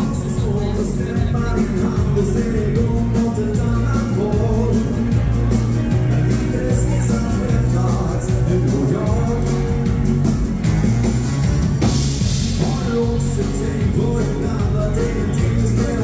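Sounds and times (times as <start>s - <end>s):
live band playing rock'n'roll: 0.0s - 16.0s.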